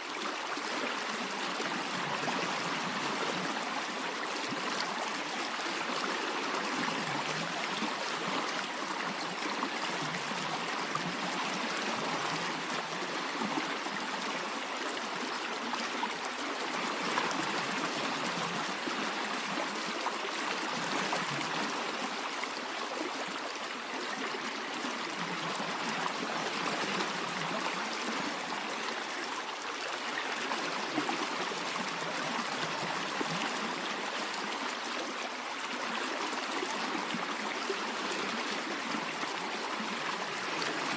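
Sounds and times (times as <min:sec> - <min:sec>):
stream of water running: 0:00.0 - 0:40.9.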